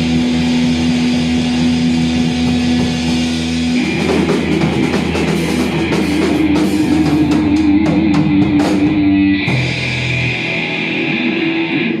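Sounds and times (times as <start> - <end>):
drum kit: 0.0 - 12.0
electric guitar: 0.0 - 12.0.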